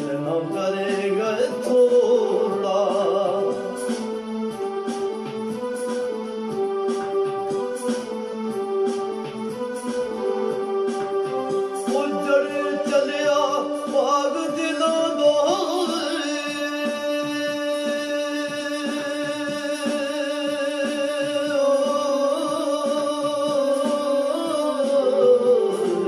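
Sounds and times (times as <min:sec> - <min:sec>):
instrumental backing: 0:00.0 - 0:26.0.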